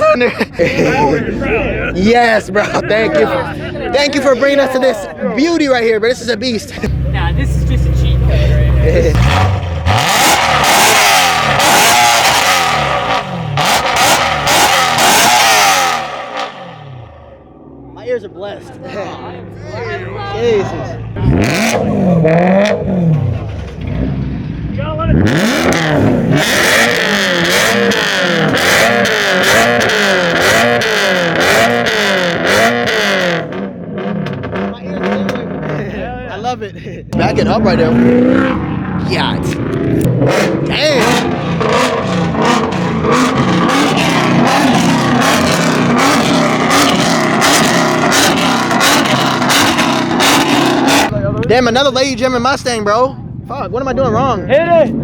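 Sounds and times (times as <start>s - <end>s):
car engine revving: 0.6s - 55.0s.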